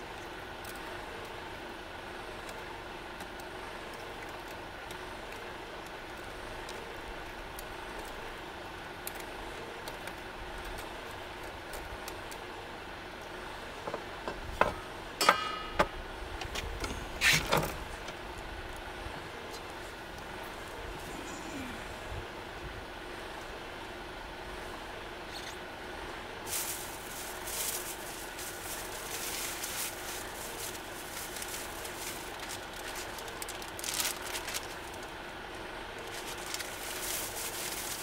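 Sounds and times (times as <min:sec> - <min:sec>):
low background hum: 0:00.0 - 0:38.0.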